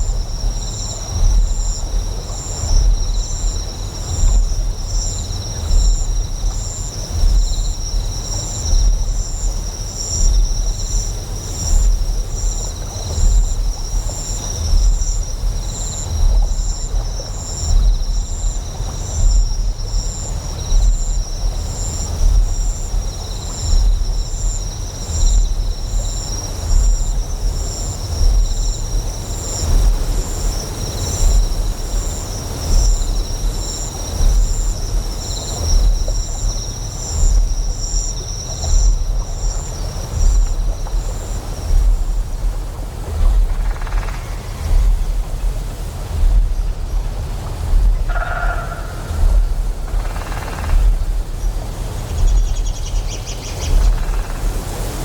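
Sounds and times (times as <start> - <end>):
deep generator hum: 0.0 - 54.6
faint flowing water: 0.0 - 55.0
insects chirping: 0.0 - 55.0.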